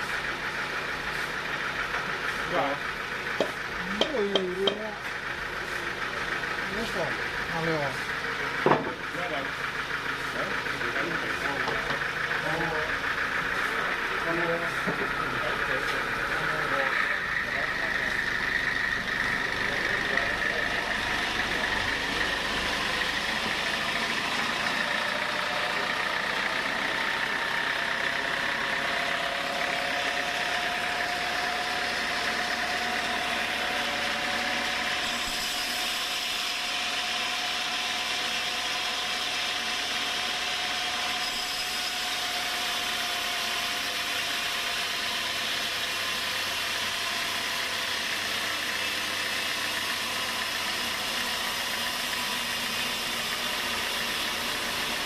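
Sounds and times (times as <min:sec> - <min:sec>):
sawmill machine running: 0:00.0 - 0:55.0.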